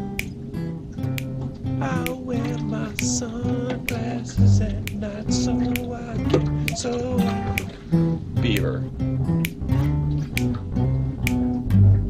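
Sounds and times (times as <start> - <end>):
guitar music with bass and beat: 0.0 - 12.0.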